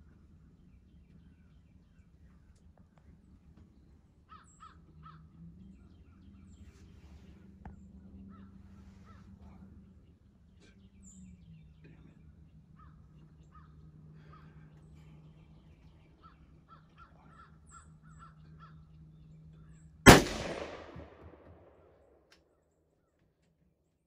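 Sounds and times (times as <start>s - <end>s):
low steady hum: 0.0s - 22.2s.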